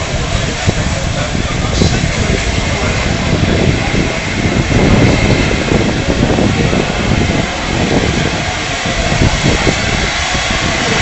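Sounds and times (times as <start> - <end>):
steam locomotive rumbling: 0.0 - 11.0
wind buffeting microphone: 0.0 - 11.0.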